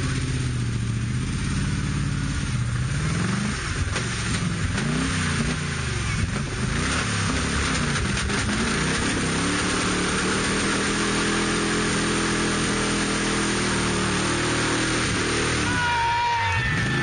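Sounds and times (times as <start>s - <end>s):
off-road engine revving: 0.0s - 17.0s.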